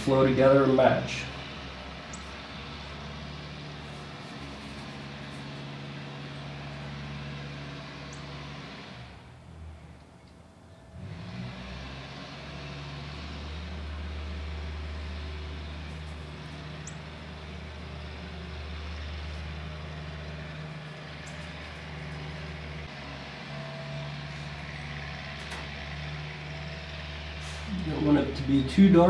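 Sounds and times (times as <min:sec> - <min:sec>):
machine humming and rushing: 0:00.0 - 0:09.8, 0:11.0 - 0:29.0.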